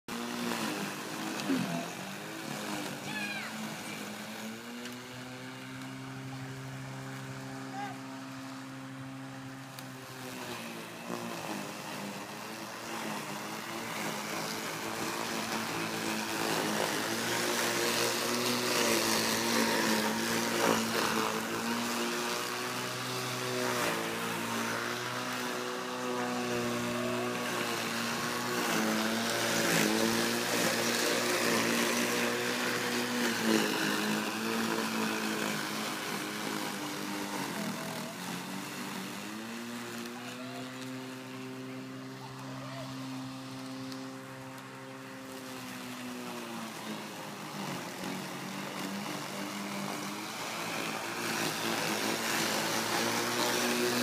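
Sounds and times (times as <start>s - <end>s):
electric lawn mower motor hum: 0.1s - 54.0s.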